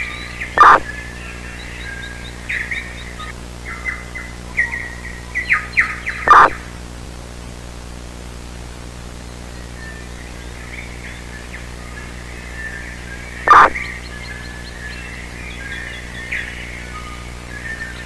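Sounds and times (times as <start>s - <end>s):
birds chirping: 0.0s - 6.8s, 9.2s - 18.0s
steady low hum: 0.0s - 18.0s.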